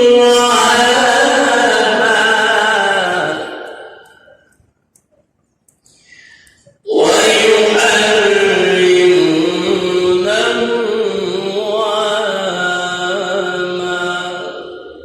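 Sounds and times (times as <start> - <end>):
man chanting melodically: 0.0 - 4.5, 6.8 - 15.0.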